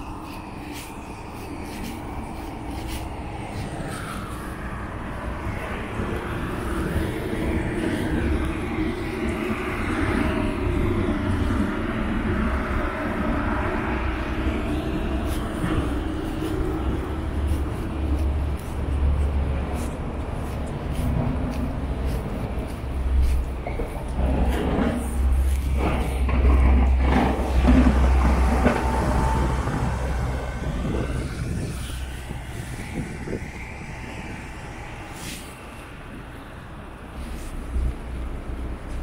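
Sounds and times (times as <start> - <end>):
city traffic rumble: 0.0 - 39.0
rushing engine noise: 0.0 - 39.0.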